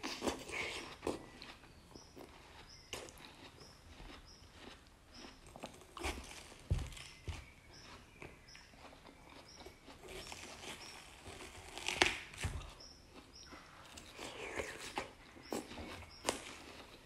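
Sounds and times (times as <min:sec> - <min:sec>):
close wet chewing: 0:00.0 - 0:17.0.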